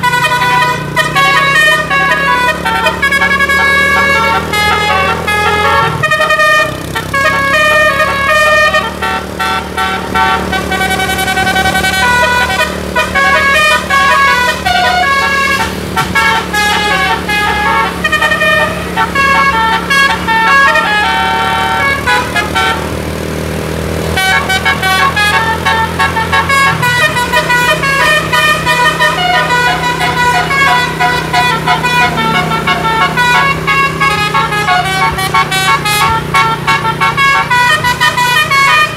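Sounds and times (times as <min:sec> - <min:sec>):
bus engine running: 0:00.0 - 0:38.9
bus musical air horn melody: 0:00.0 - 0:38.9.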